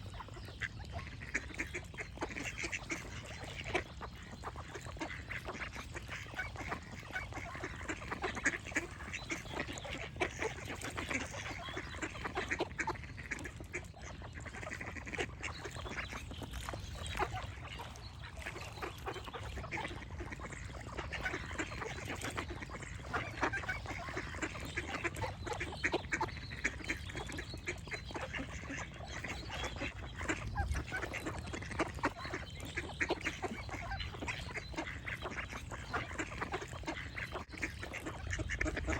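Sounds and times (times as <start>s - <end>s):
ducks quacking: 0.0s - 38.9s.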